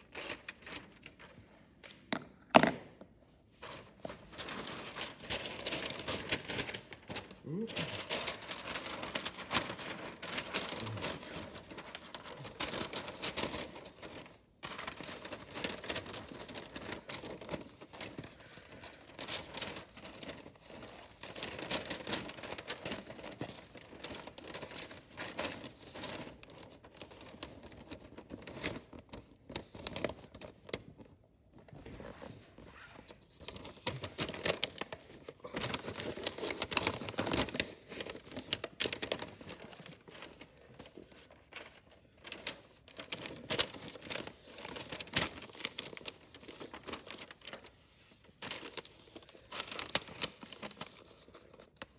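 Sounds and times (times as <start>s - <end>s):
wrapping paper crinkling: 0.0s - 1.6s, 3.3s - 51.9s.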